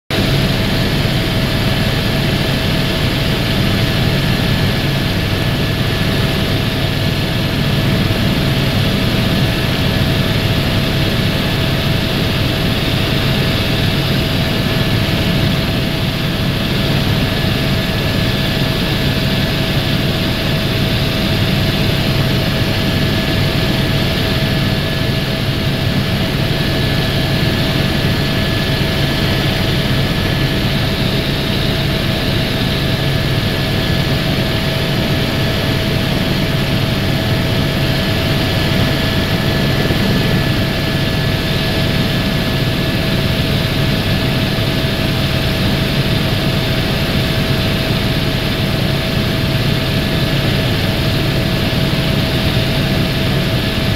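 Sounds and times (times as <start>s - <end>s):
helicopter cabin drone: 0.1s - 53.9s.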